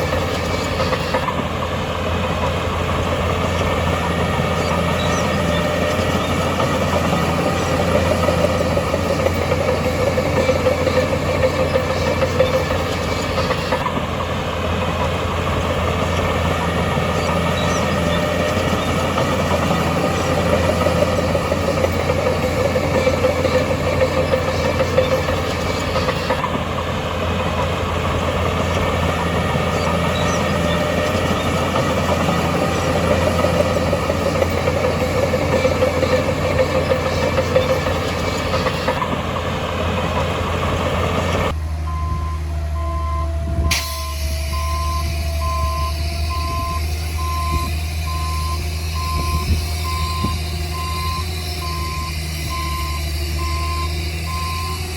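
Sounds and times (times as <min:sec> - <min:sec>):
heavy diesel machine engine: 0:00.0 - 0:54.9.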